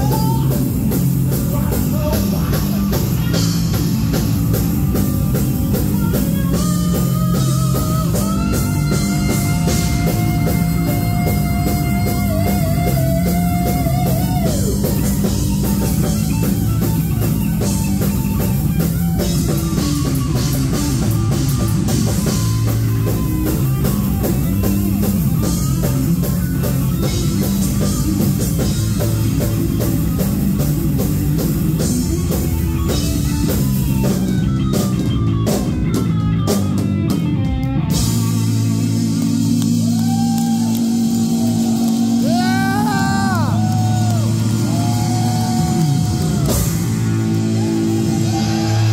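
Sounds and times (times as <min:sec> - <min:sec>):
bass guitar: 0:00.0 - 0:48.9
distorted electric guitar: 0:00.0 - 0:48.9
drum kit: 0:00.0 - 0:48.9.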